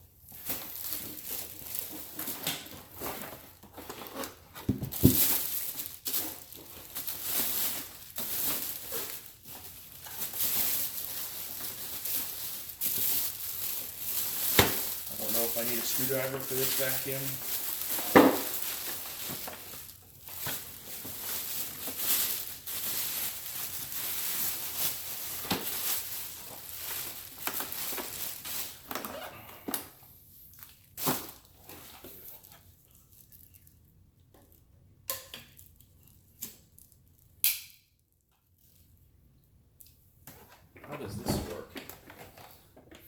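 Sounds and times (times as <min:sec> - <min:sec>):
packaging crinkling and rustling: 0:00.2 - 0:34.7, 0:40.4 - 0:43.0.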